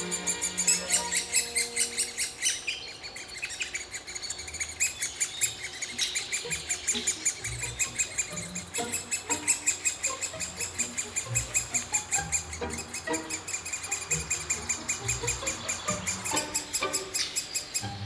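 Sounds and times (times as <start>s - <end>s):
woodpecker nestlings begging chirps: 0.0s - 18.0s.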